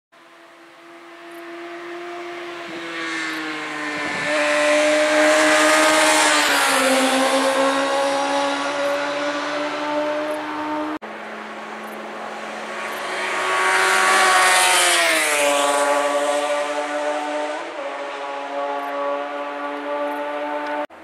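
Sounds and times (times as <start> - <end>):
motorcycle engine passing at speed: 0.2 - 20.9.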